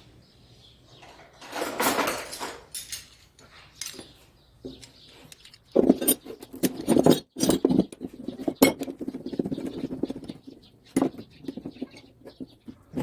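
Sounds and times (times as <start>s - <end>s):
metal clinking and clicking: 1.0s - 13.0s.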